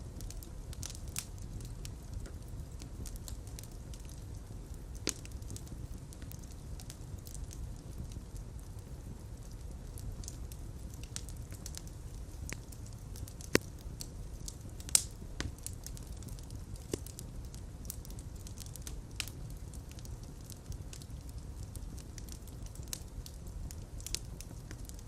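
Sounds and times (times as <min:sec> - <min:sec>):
fire crackles and pops: 0:00.0 - 0:25.0
fire flames rumbling: 0:00.0 - 0:25.0.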